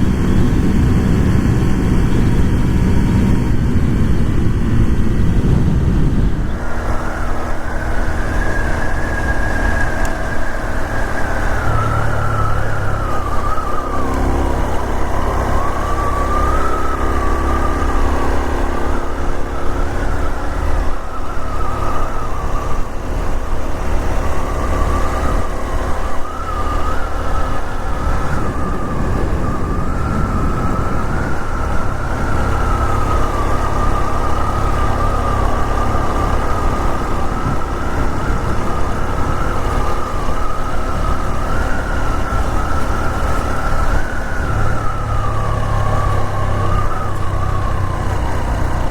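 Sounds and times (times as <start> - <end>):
motorcycle engine running: 0.0 - 48.9
rushing wind: 0.0 - 48.9.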